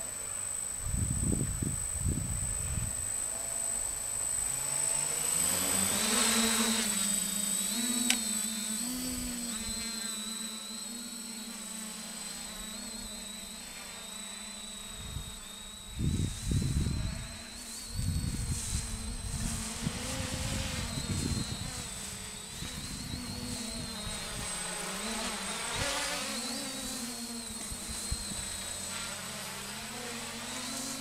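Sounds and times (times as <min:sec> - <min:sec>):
quadcopter propellers buzzing: 0:00.0 - 0:31.0.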